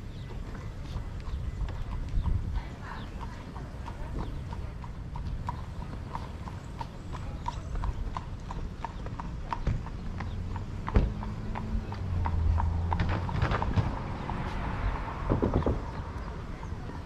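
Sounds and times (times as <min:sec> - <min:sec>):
horse hooves clip-clopping on pavement: 0:00.0 - 0:17.0.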